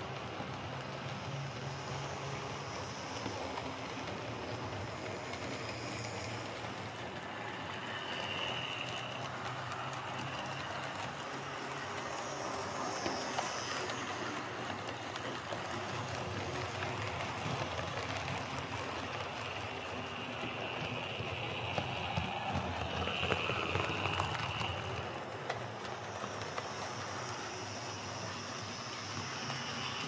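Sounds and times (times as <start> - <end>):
faint motor whine: 0.0 - 30.0
light clicks from rails: 0.0 - 30.0
model train rolling on track: 0.0 - 30.0.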